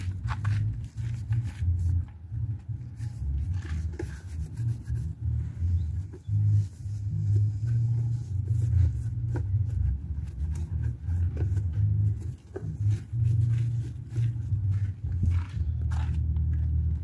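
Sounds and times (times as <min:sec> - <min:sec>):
rag wiping plastic housing: 0:00.0 - 0:16.2.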